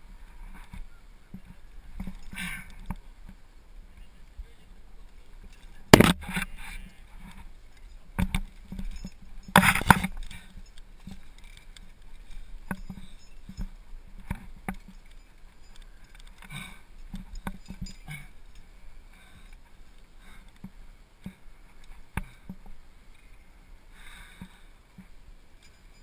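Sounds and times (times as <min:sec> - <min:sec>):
climbing gear clinking: 0:00.1 - 0:03.4, 0:04.9 - 0:26.0.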